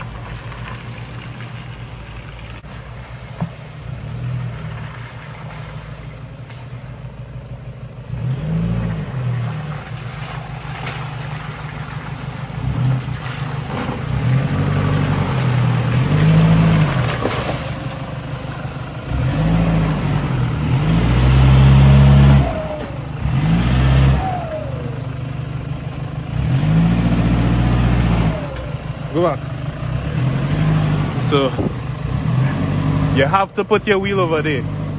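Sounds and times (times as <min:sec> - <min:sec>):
vehicle engine revving: 0:03.8 - 0:34.9.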